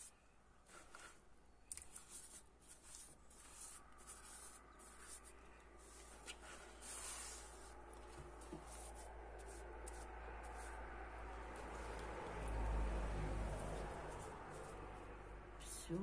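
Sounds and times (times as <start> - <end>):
paintbrush scratching and dabbing cloth: 0.0 - 15.6.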